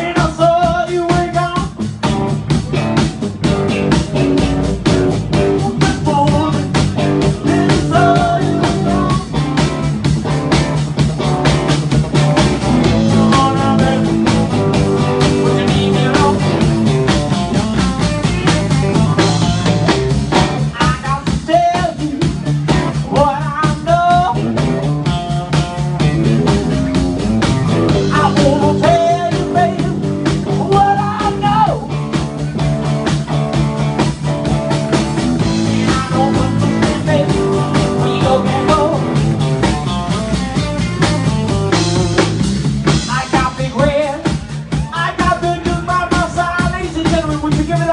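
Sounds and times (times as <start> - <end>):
drum kit: 0.0 - 47.9
electric bass guitar: 0.0 - 47.9
electric guitar lead: 1.7 - 21.1, 24.1 - 44.9.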